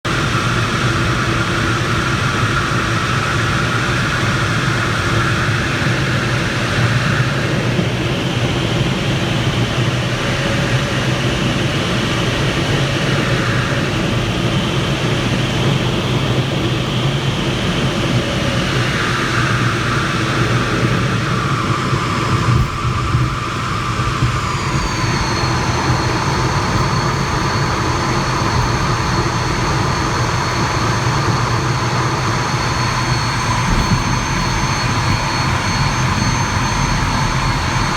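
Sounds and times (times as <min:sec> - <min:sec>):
jet engine and airflow rush: 0:00.0 - 0:37.9
high falling whine: 0:04.8 - 0:37.9.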